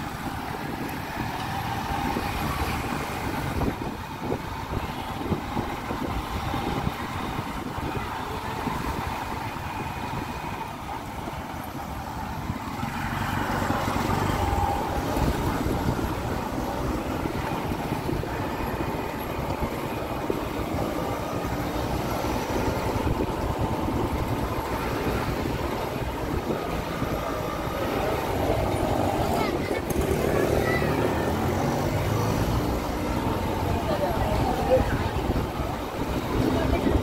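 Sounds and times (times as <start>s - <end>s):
auto-rickshaws running: 0.0s - 37.0s
traffic engines and tyres rumbling: 0.0s - 37.0s.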